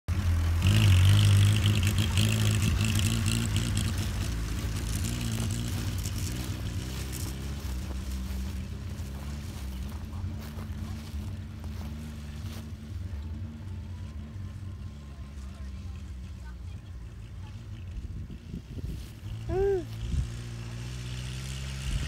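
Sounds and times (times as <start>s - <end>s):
car engine running: 0.1s - 22.0s.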